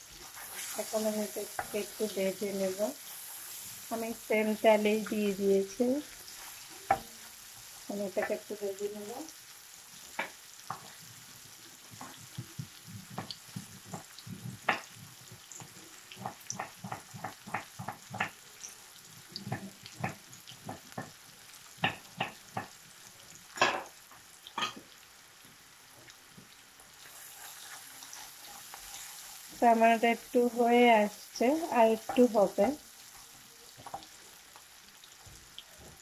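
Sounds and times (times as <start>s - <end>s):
onion sizzling in oil: 0.0s - 36.0s.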